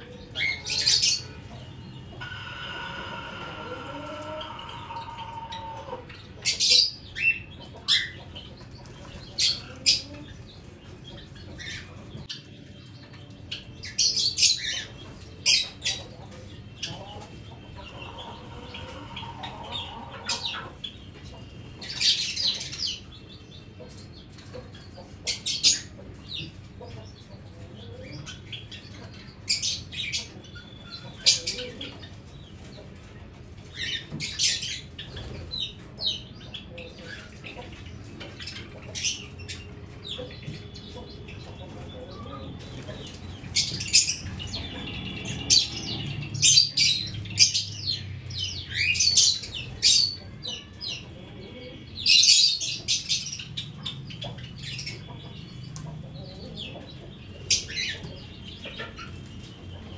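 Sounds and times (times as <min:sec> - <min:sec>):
budgies chirping: 0:00.0 - 0:59.9.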